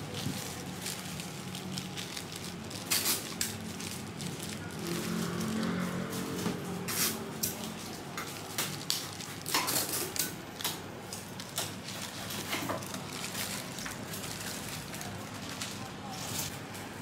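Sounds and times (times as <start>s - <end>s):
paper and plastic rustling: 0.0s - 16.9s.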